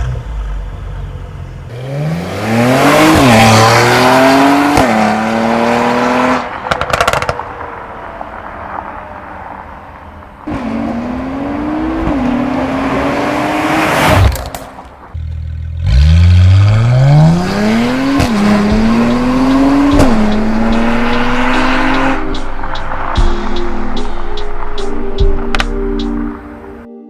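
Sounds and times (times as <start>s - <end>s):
car engine accelerating hard: 0.0s - 7.3s, 10.5s - 14.6s, 15.2s - 25.5s.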